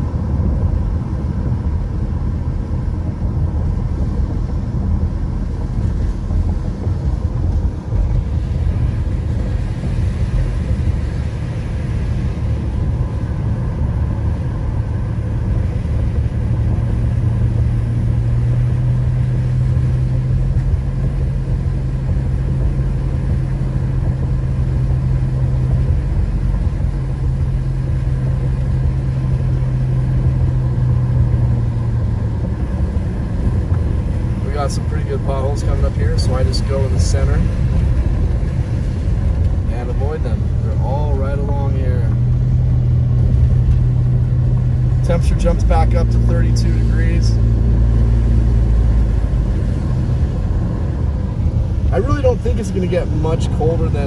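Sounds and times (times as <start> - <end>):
steady hum: 0.0 - 54.0
tyres and engine rumble: 0.0 - 54.0.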